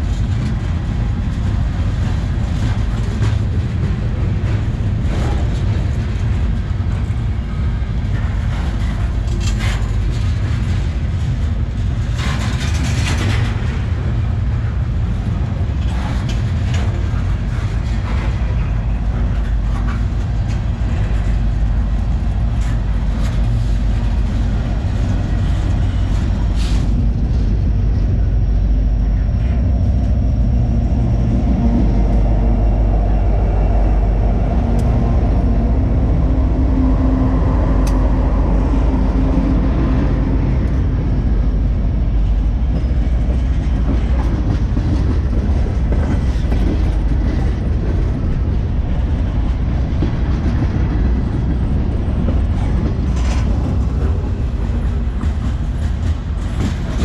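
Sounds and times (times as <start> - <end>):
wheels and couplings clacking: 0.0 - 28.2, 37.8 - 57.0
train wheels rumbling: 0.0 - 57.0.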